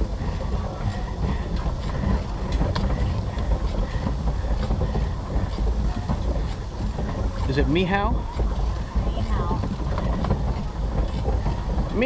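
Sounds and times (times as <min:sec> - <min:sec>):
pedal boat low rumble: 0:00.0 - 0:12.0
pedal drive clicks and clatter: 0:00.0 - 0:12.0.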